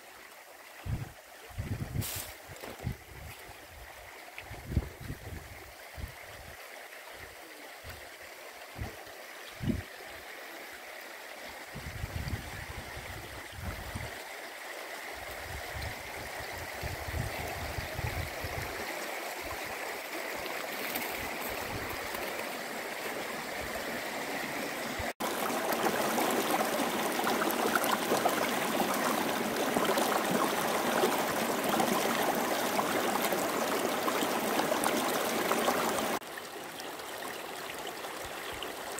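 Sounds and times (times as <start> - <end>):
stream running over stones: 0.0 - 38.9
water rushing around boulders: 5.9 - 38.9.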